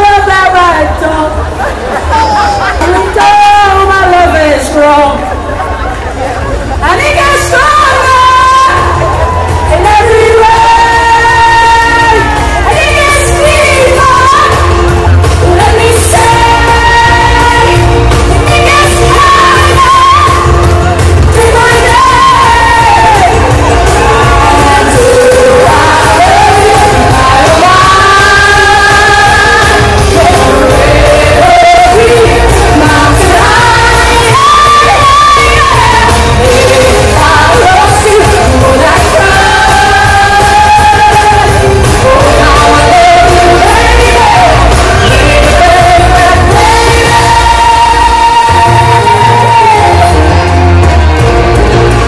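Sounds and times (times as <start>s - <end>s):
crowd yelling and shouting: 0.0s - 52.0s
loud pop song with singing: 0.0s - 52.0s.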